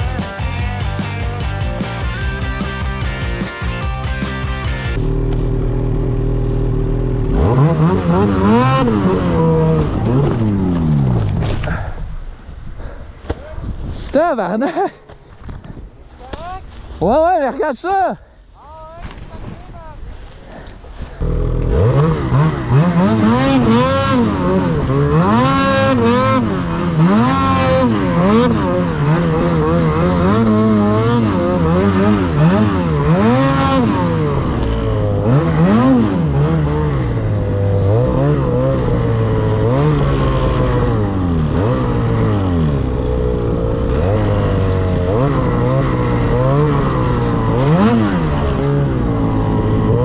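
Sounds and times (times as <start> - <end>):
snowmobile engine revving: 0.0 - 11.9, 18.6 - 50.0.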